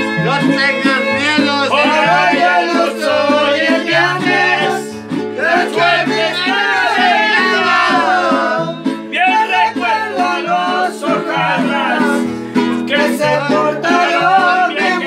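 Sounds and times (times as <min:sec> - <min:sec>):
bass line: 0:00.0 - 0:15.0
people singing: 0:00.0 - 0:15.0
plucked guitars: 0:00.0 - 0:15.0.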